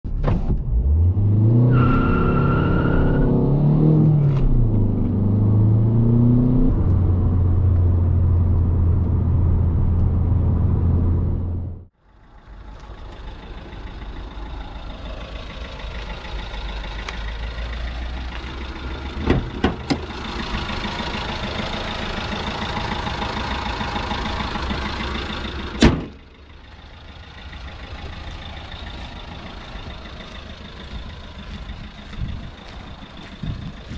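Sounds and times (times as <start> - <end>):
diesel car engine revving and idling: 0.1 - 33.9
outdoor rumble: 0.1 - 33.9.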